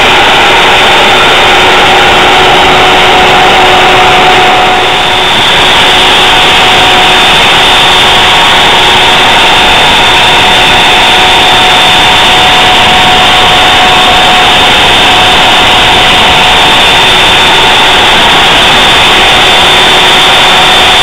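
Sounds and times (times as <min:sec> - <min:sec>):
router spindle high whine: 0:00.0 - 0:21.0.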